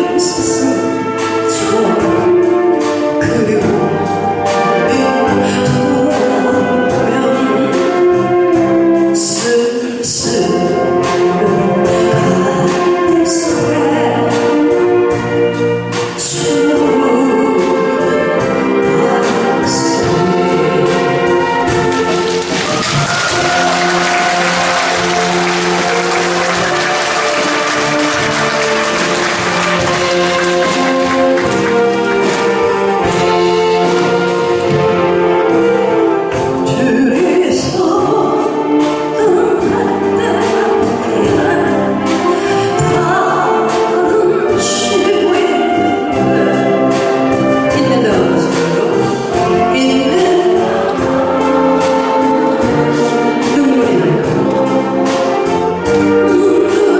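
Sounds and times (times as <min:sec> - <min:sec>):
saxophone ensemble playing: 0:00.0 - 0:09.3, 0:10.5 - 0:36.7, 0:37.4 - 0:56.9.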